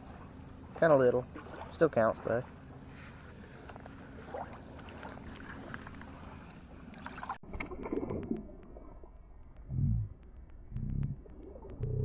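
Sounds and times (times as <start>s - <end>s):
water sloshing and splashing: 0.0s - 9.6s.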